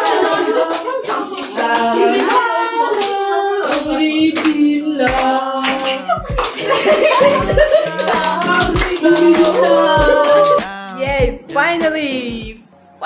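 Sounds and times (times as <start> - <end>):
hands clapping: 0.0 - 10.8
people singing a birthday song: 0.0 - 12.6.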